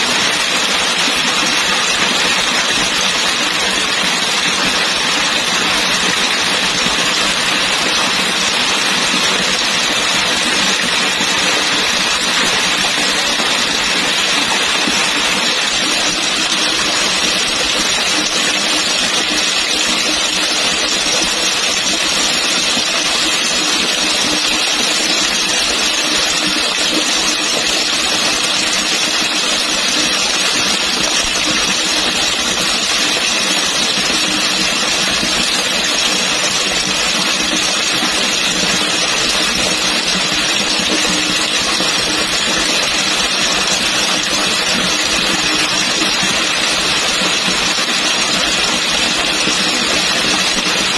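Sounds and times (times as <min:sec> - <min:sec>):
falling water splashing: 0:00.0 - 0:50.9.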